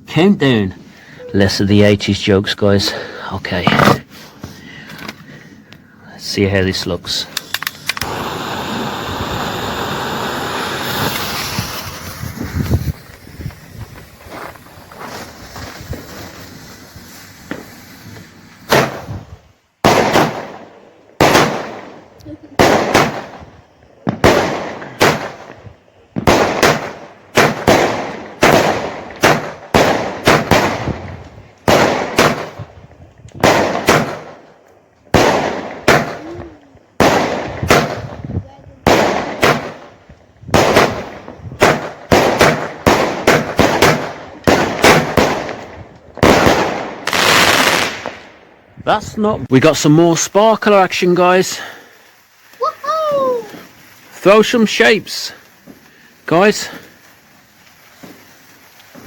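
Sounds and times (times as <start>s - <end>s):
firework hissing: 6.3s - 59.0s.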